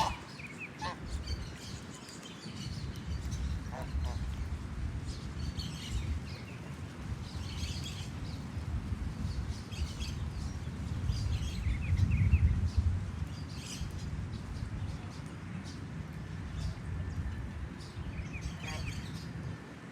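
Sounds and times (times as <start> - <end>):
steady low rumble: 2.8 - 19.6.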